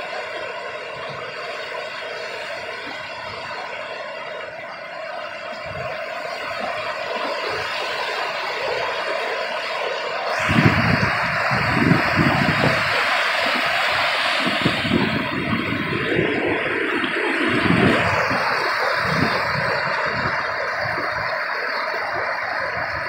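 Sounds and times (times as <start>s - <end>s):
low rumbling surges: 0.0s - 23.0s
rushing water: 0.0s - 23.0s.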